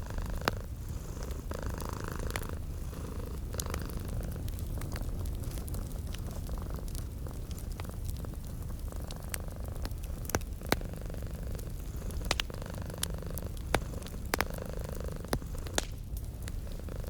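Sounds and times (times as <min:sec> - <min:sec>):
cat purring: 0:00.0 - 0:17.0
fireplace fire crackling: 0:00.0 - 0:17.0.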